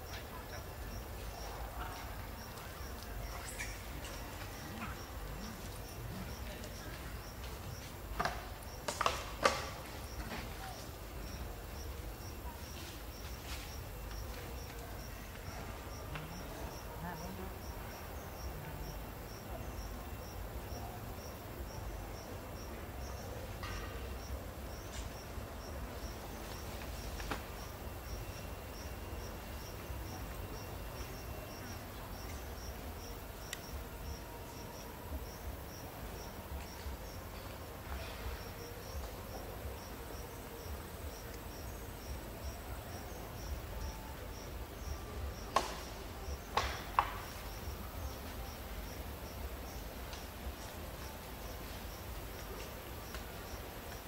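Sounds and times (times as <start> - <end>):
insect chirping: 0.0 - 54.0
low background noise: 0.0 - 54.0.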